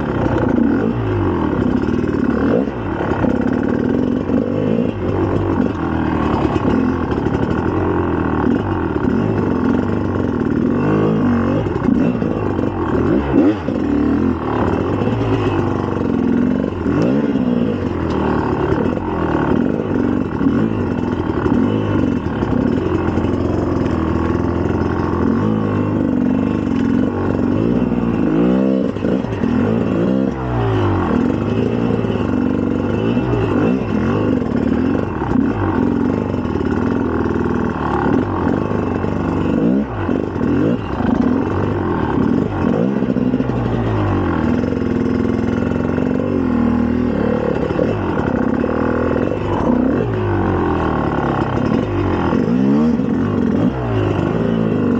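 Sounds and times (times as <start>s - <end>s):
two-stroke motorcycle engine revving: 0.0s - 54.9s.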